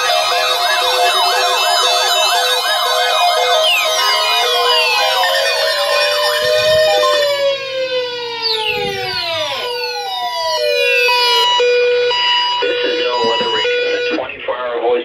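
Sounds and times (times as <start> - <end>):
wailing electronic alert tones: 0.0 - 14.3
steady beeping tones: 0.0 - 14.4.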